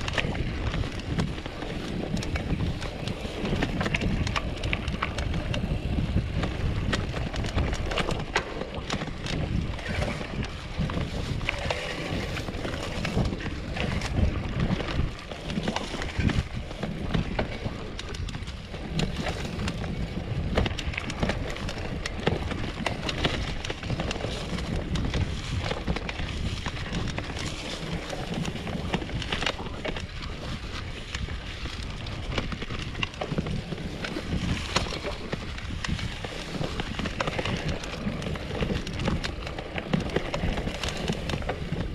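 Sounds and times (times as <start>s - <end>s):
bike rattling and knocking: 0.0s - 41.9s
wind buffeting microphone: 0.0s - 41.9s.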